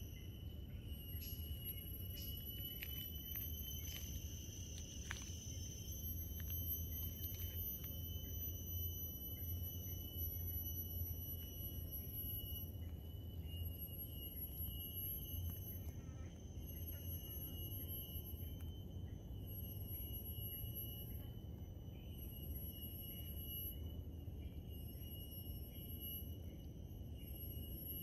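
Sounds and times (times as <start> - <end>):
insects calling: 0.0 - 28.0.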